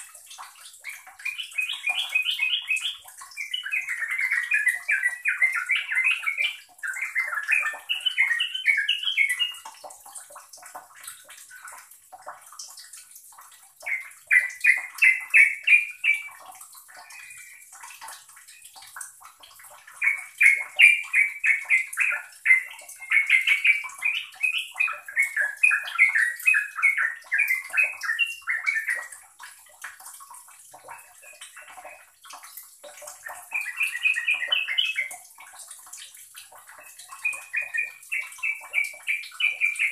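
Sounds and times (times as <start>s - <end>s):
bird singing bubbling notes: 0.0s - 11.9s, 13.8s - 39.9s.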